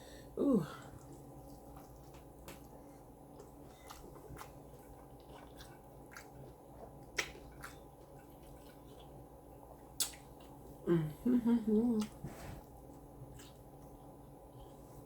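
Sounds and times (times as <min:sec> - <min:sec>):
chewing with mouth clicks: 0:00.8 - 0:10.8, 0:12.0 - 0:15.0.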